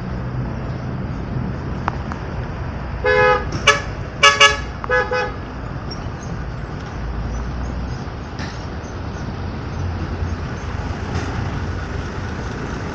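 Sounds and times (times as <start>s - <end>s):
bus engine rumble: 0.0s - 12.9s
road traffic noise: 0.0s - 12.9s.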